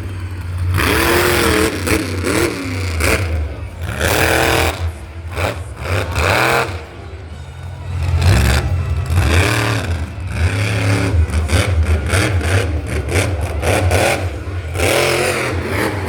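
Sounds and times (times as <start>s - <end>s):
engine revving: 0.0s - 16.0s
steady low rumble: 0.0s - 16.0s.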